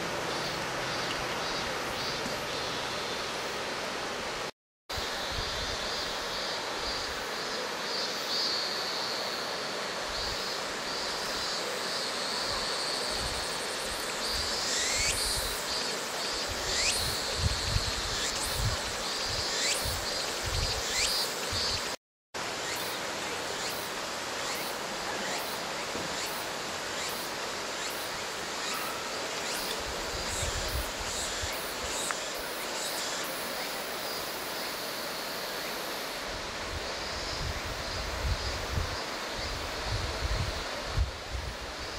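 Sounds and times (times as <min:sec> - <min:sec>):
high pulsing insect buzz: 0:05.0 - 0:22.0, 0:22.6 - 0:40.7.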